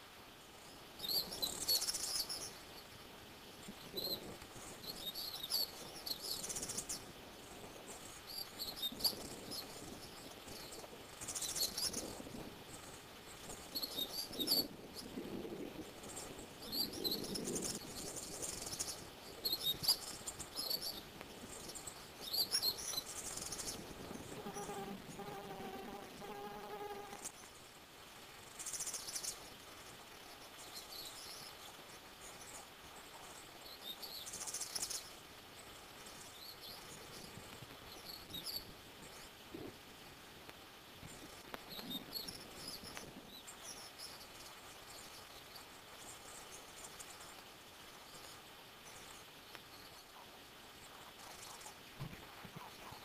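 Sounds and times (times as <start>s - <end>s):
low steady buzz: 0.0s - 53.0s.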